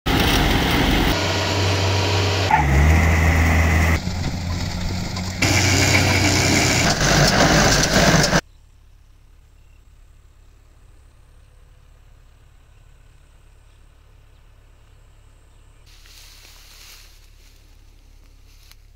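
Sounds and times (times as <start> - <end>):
quiet outdoor background: 0.1 - 18.9
tractor engine and threshing machinery: 0.1 - 18.9.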